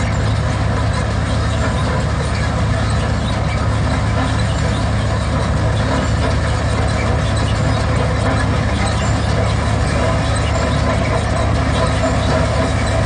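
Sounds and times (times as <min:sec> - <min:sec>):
combine harvester engine hum: 0:00.0 - 0:13.0.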